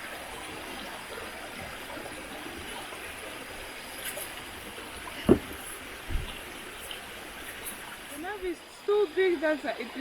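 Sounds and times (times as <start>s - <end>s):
running river water: 0.0s - 10.0s.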